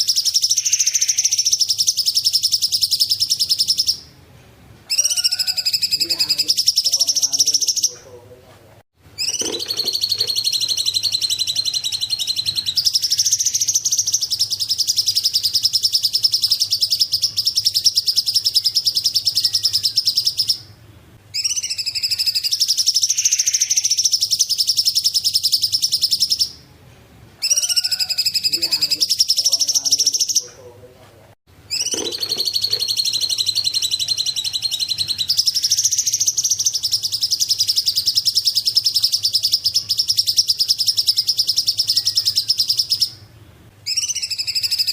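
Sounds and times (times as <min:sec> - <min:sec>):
songbird chattering song: 0:00.0 - 0:04.1, 0:04.9 - 0:08.2, 0:09.2 - 0:26.6, 0:27.4 - 0:30.7, 0:31.7 - 0:43.3, 0:43.9 - 0:44.9.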